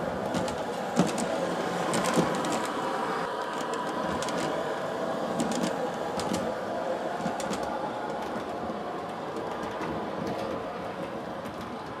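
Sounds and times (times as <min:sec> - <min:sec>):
model train motor hum: 0:00.0 - 0:12.0
wheels clicking on rails: 0:00.0 - 0:12.0.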